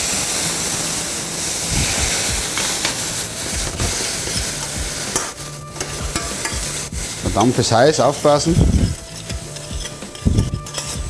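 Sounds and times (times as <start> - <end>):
wine sizzling in hot pan: 0.0 - 11.0.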